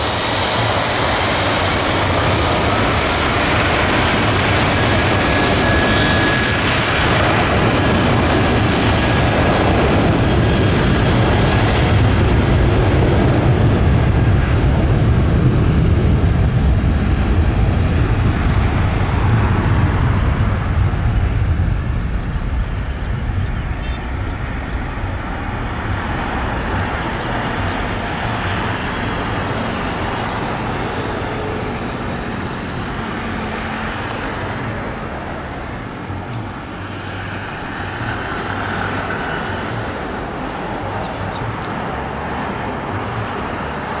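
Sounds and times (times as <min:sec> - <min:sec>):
jet engines at takeoff thrust: 0:00.0 - 0:44.0.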